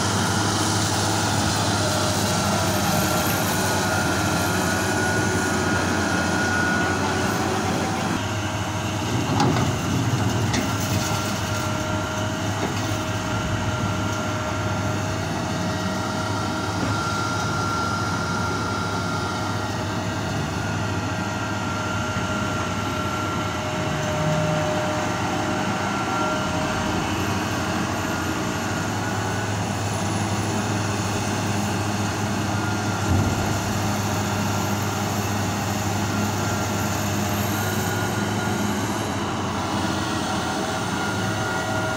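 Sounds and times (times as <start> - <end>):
excavator engine and hydraulic drone: 0.0 - 41.9.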